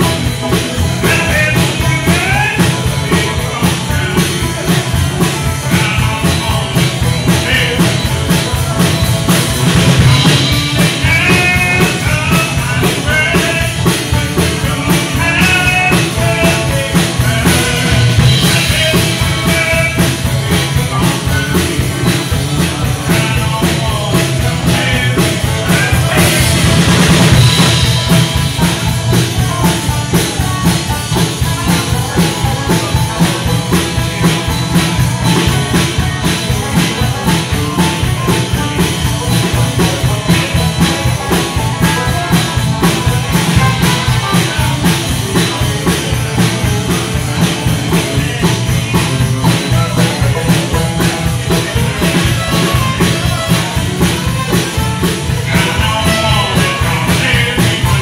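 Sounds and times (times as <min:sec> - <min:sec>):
acoustic guitars strumming: 0:00.0 - 0:58.0
banjo picking: 0:00.0 - 0:58.0.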